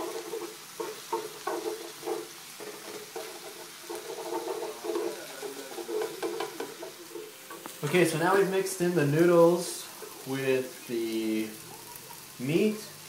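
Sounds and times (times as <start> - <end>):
chopsticks scraping frying noodles: 0.0 - 13.0
food frying in a skillet: 0.0 - 13.0.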